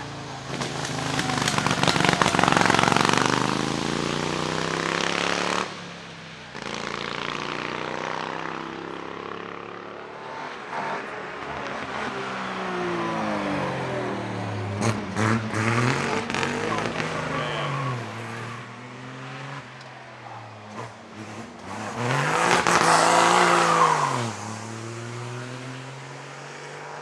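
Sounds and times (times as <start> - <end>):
racing car engine passing: 0.0 - 5.8, 6.8 - 27.0
second engine passing: 0.0 - 27.0.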